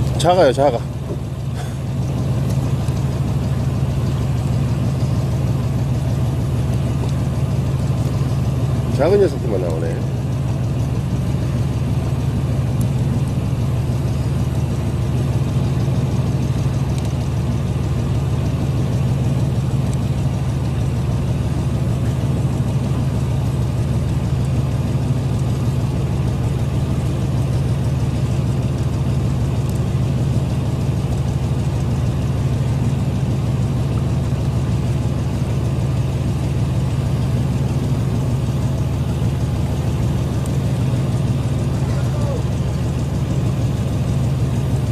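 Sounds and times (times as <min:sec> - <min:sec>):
boat engine humming: 0:00.0 - 0:44.9.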